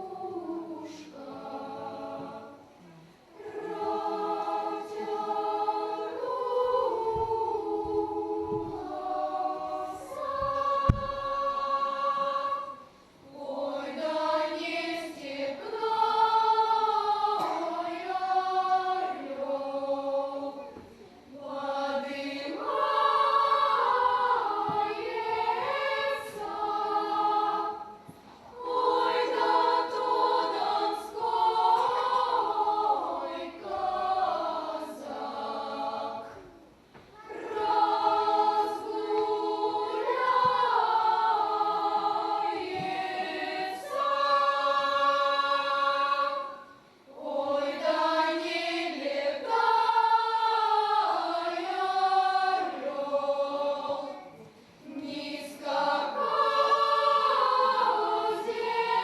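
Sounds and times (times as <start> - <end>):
choir singing in parts: 0.0 - 59.0.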